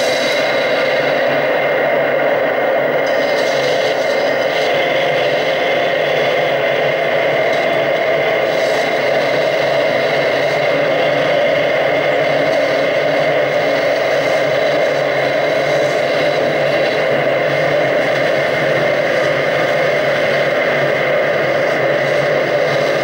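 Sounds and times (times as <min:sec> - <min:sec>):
dense mechanical electronic drone: 0:00.0 - 0:23.0.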